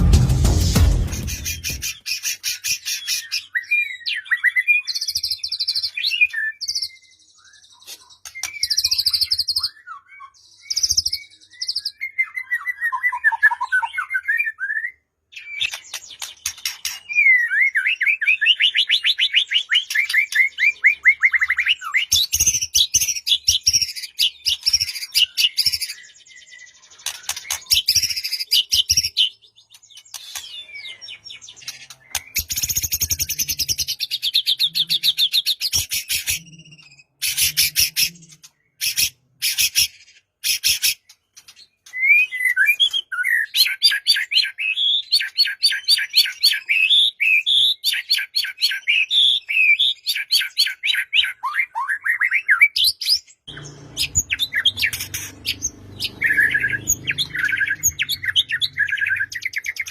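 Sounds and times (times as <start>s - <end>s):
bird singing trills and rattles: 1.3s - 13.9s, 15.3s - 49.1s, 52.4s - 59.9s.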